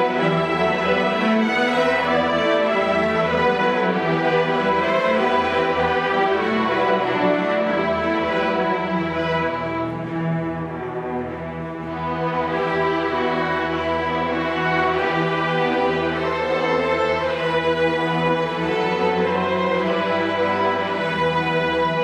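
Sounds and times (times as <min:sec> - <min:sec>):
string orchestra playing: 0:00.0 - 0:22.0.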